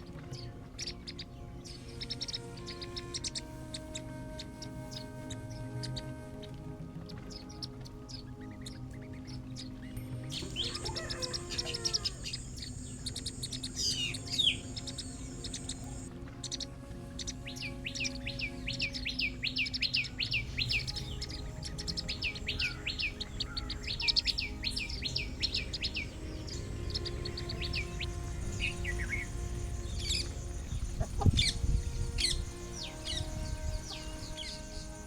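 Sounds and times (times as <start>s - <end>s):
small birds chirping: 0.0s - 35.0s
soft background music: 0.0s - 35.0s.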